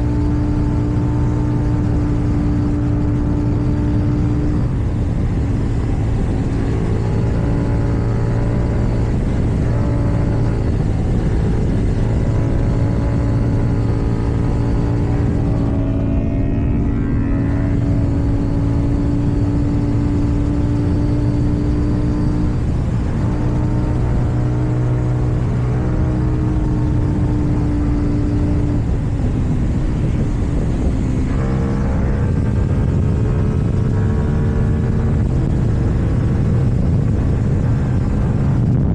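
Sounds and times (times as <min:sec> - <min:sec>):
motorcycle engine cruising: 0:00.0 - 0:38.9
wind noise: 0:00.0 - 0:38.9.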